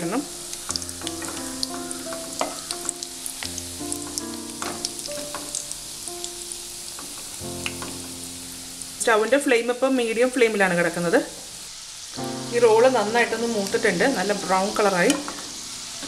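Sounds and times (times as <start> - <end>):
bread rolls sizzling in oil: 0.0 - 16.0.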